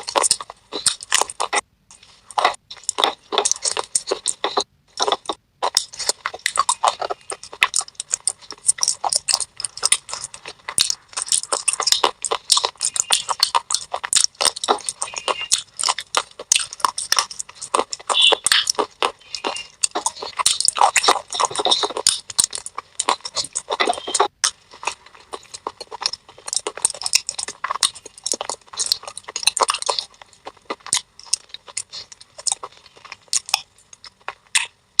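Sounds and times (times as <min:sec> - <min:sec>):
crunchy clay pieces being chewed: 0:00.0 - 0:35.0.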